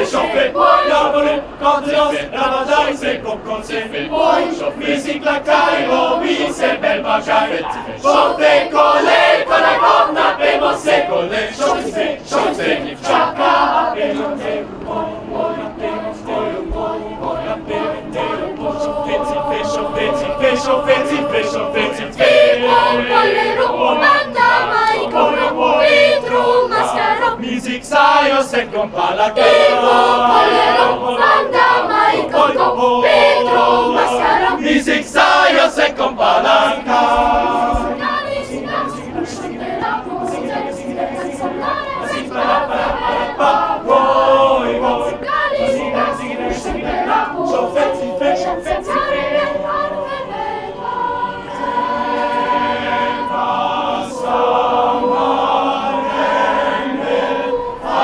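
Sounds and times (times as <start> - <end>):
boys' choir singing a cappella: 0.0 - 58.0.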